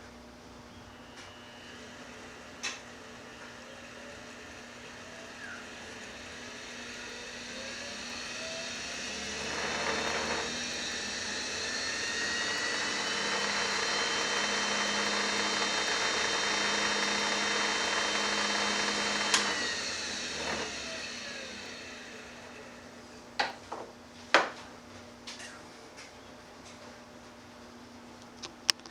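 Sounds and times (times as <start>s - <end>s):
lathe motor whining: 0.0s - 23.9s.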